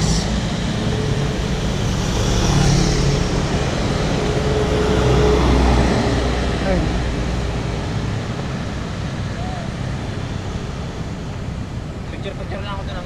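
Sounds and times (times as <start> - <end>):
engine hum: 0.0 - 13.0
passing traffic rumble: 0.0 - 13.0.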